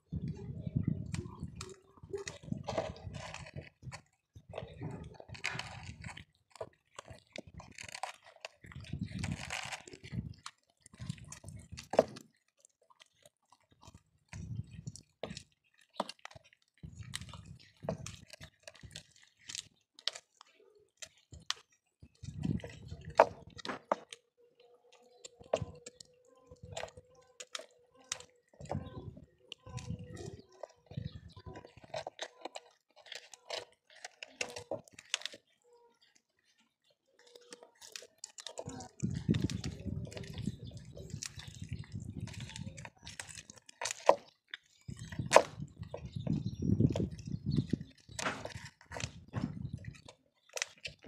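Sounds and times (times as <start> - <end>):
cats chewing and crunching bones: 0.0 - 51.0.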